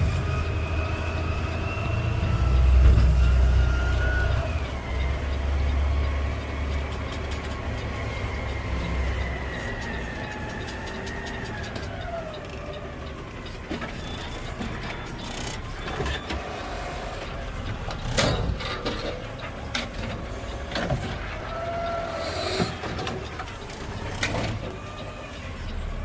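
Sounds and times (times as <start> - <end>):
garbage truck engine rumbling: 0.0 - 26.0.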